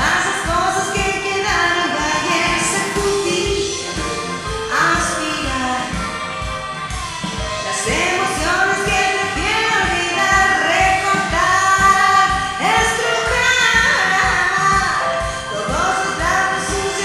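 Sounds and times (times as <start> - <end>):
steady drum beat: 0.0 - 17.0
woman singing: 0.0 - 17.0
rock-blues band playing: 2.4 - 16.9.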